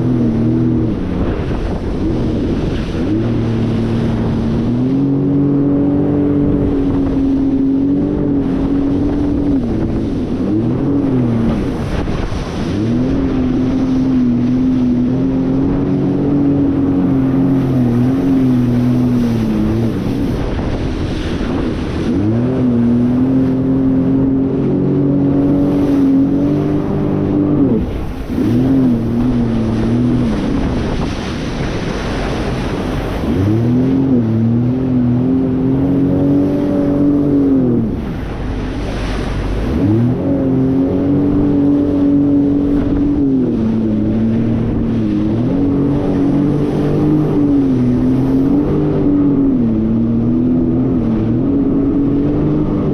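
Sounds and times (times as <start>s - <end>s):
jet ski engine revving: 0.0s - 52.9s
wind and water rushing: 0.0s - 52.9s.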